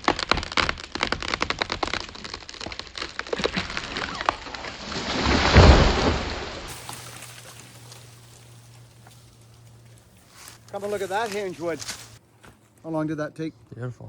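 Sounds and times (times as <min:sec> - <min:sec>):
tree crashing to ground: 0:00.0 - 0:12.2
wood crackling and snapping: 0:00.0 - 0:12.2.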